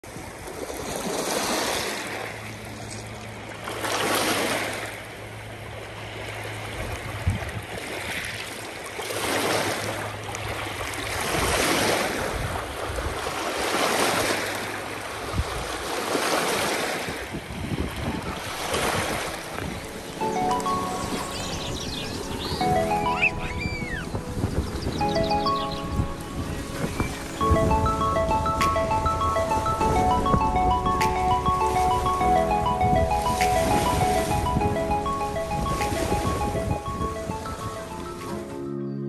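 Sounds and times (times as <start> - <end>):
lake waves washing in: 0.0 - 38.6.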